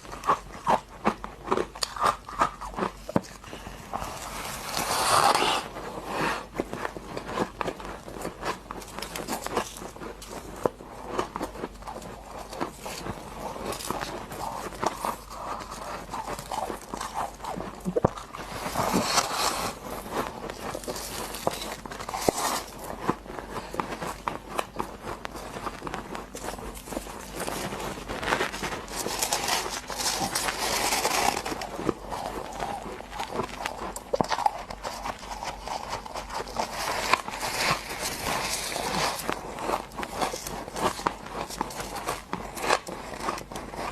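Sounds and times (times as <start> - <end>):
chewing ice crunches: 0.0 - 43.9.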